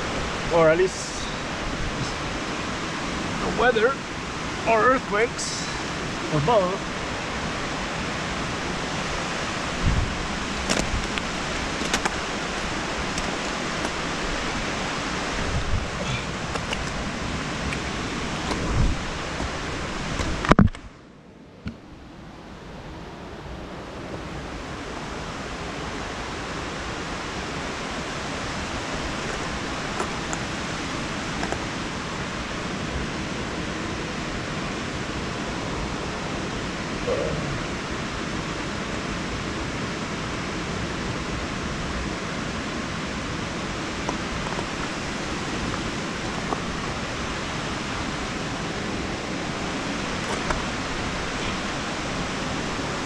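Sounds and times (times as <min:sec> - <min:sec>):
rushing outdoor noise: 0:00.0 - 0:53.0.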